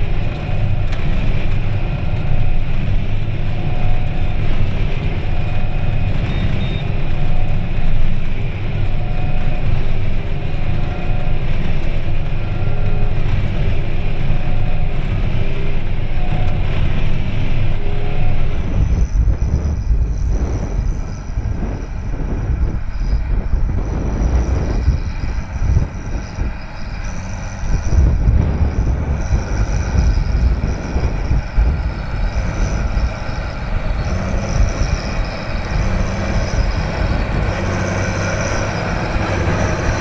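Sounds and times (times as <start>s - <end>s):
tractor and baler rumbling: 0.0s - 40.0s.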